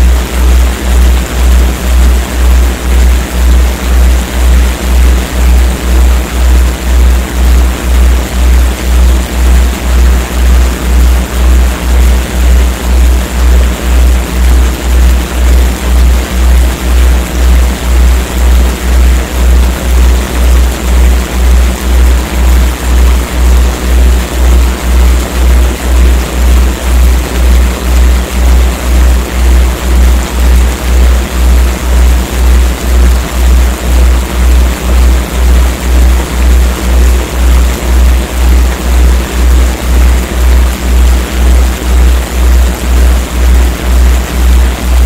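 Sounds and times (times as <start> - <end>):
pulsing deep electronic hum: 0.0 - 45.0.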